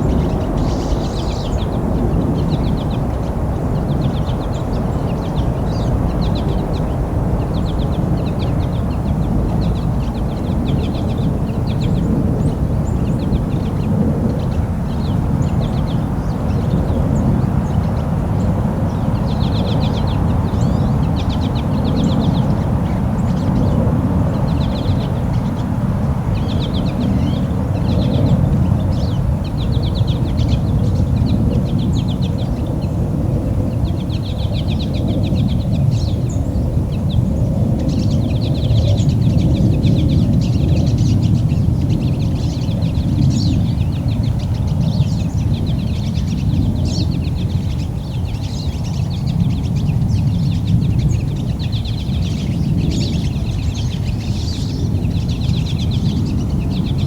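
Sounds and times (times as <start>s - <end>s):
songbirds chattering: 0.0s - 57.0s.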